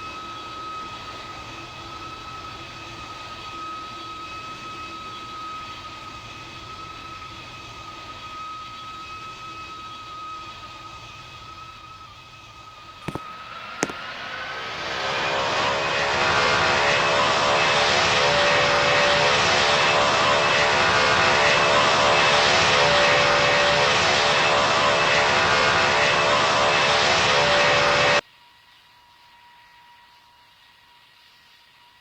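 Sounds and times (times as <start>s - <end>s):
airplane engine whine: 0.0s - 28.2s.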